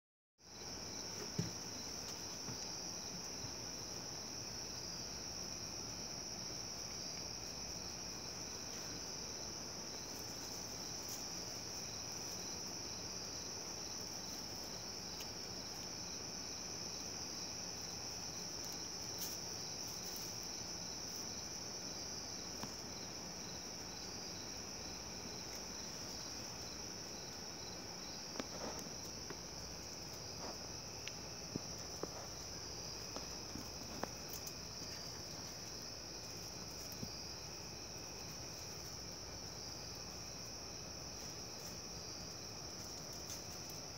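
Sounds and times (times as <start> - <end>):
crickets trilling: 0.4 - 43.9.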